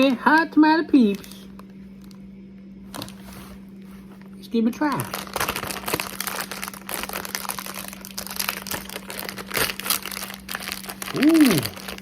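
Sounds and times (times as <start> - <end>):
plastic wrapping crinkling: 0.0 - 2.2, 2.9 - 12.0.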